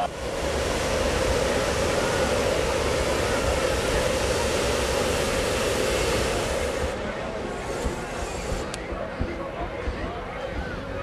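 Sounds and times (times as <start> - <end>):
propane burners roaring: 0.0 - 10.6.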